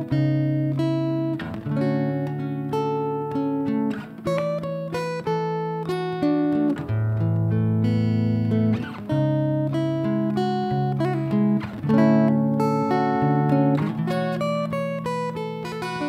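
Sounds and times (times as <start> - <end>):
solo acoustic guitar: 0.0 - 16.0.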